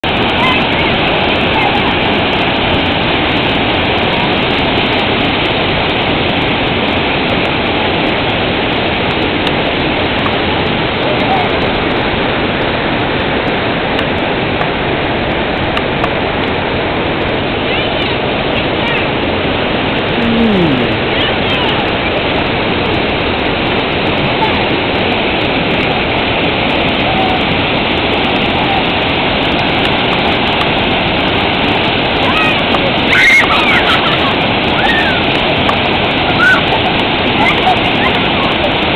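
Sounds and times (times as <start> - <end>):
waterfall rushing over boulders: 0.0 - 38.9.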